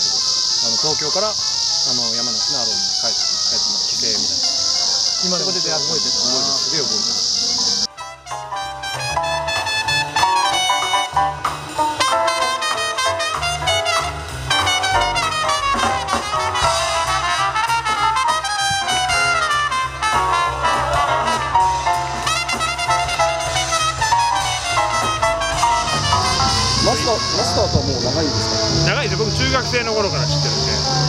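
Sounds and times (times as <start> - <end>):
jazz band with drums and saxophones: 0.0 - 31.0
trumpets playing fast runs: 1.0 - 31.0.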